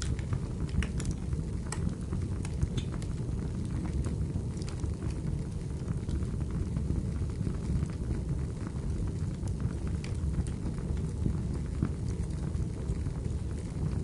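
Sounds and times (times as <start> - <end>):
burning logs crackling and popping: 0.0 - 14.0
flames roaring: 0.0 - 14.0.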